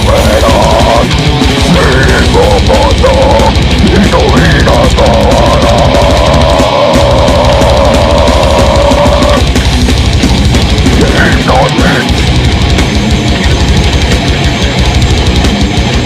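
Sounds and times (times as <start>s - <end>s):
fast dense drumming: 0.0s - 16.0s
heavy metal band playing live: 0.0s - 16.0s.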